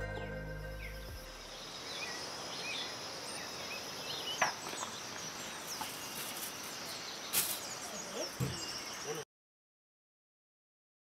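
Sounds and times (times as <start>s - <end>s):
insects droning: 0.0s - 9.2s.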